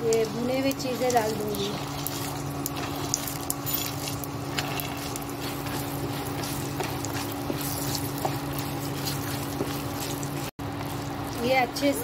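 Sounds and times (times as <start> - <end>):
hot oil sizzling: 0.0 - 12.0
steady low hum: 0.0 - 12.0.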